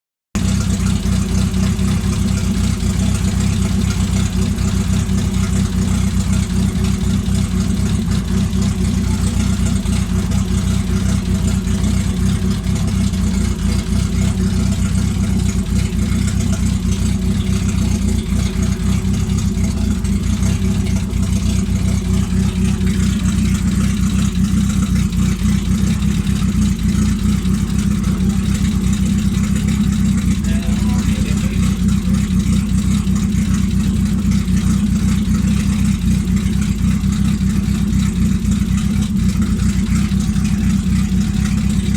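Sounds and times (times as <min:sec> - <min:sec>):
car engine idling: 0:00.4 - 0:41.9.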